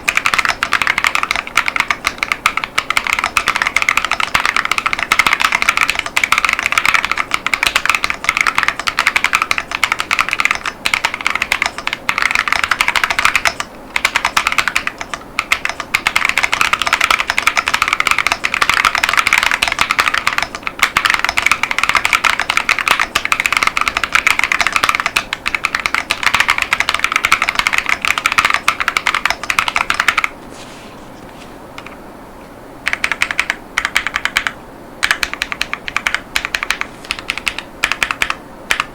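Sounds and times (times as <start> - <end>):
mechanical keyboard typing: 0.0 - 30.4, 32.8 - 38.9.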